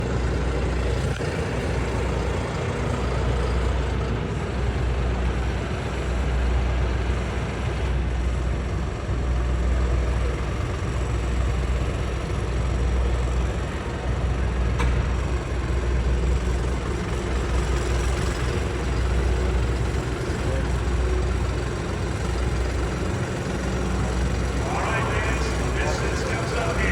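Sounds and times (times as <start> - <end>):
heavy engine idling: 0.0 - 26.9.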